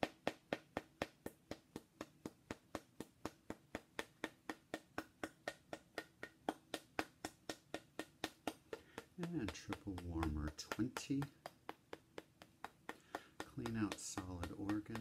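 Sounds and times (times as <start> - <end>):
rod tapping carved figurine: 2.9 - 15.0.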